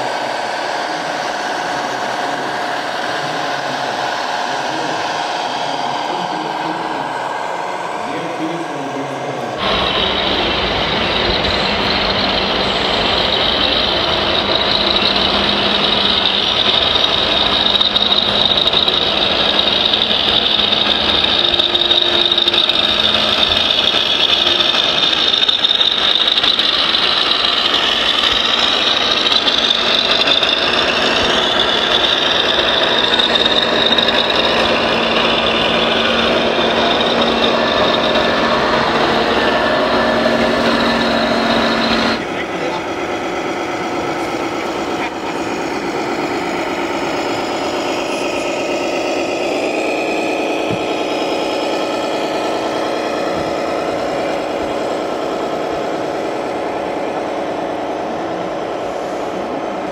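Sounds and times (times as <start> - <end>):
electric motor and pump whine: 0.0 - 59.9
engine-like rumble: 0.0 - 59.9.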